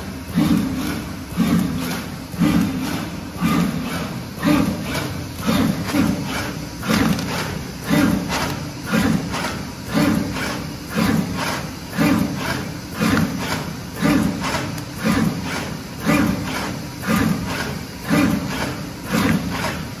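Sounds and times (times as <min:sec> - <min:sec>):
machine clacking: 0:00.3 - 0:20.0.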